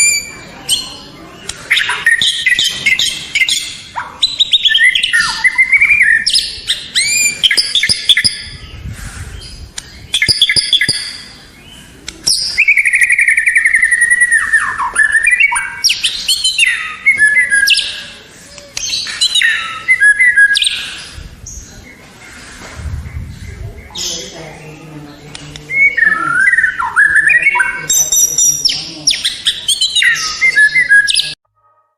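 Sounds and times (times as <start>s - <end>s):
bird singing: 0.0s - 31.4s.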